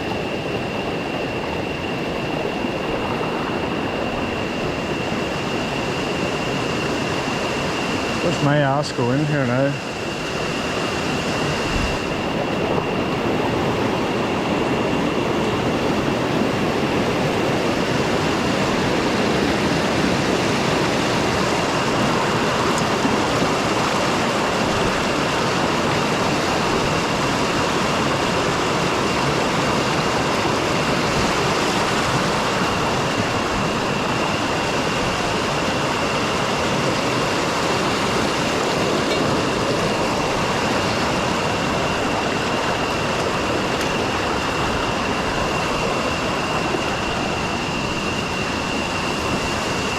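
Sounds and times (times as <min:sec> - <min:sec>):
water rushing over rocks: 0:00.0 - 0:49.9.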